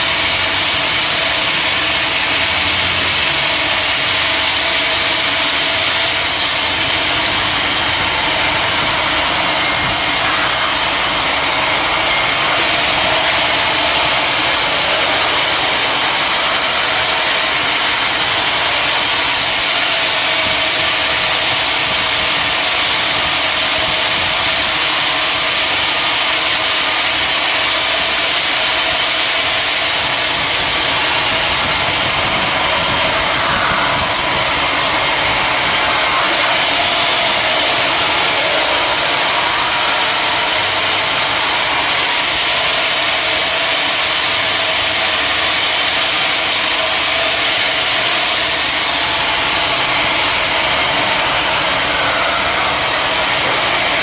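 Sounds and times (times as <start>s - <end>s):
sawmill saw running: 0.0s - 54.0s.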